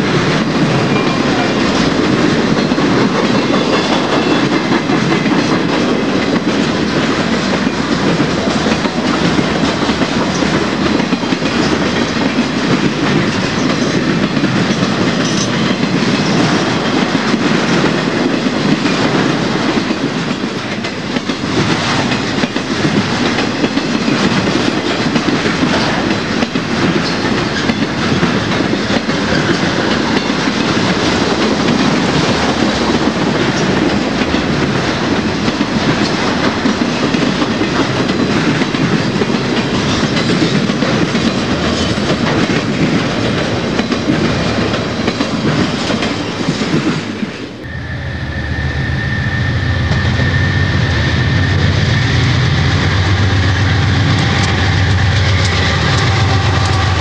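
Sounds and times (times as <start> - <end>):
diesel locomotive engine rumble: 0.0 - 57.0
freight train rumbling past: 0.0 - 57.0
wheels clicking over rail joints: 0.1 - 47.2.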